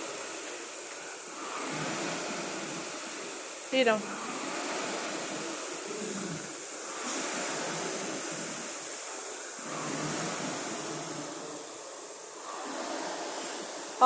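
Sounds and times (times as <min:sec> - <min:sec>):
rowing machine fan whooshing: 0:00.0 - 0:14.0.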